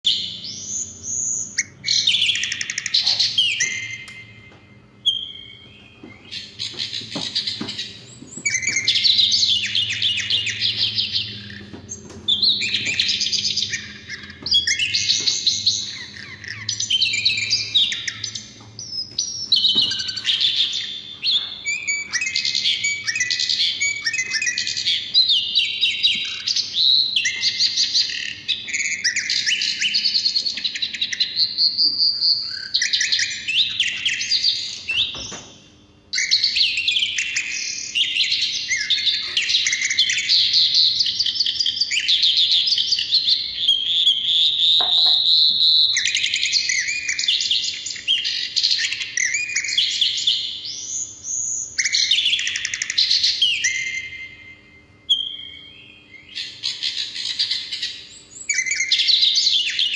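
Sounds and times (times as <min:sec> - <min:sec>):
bird twittering song: 0:00.1 - 0:59.9.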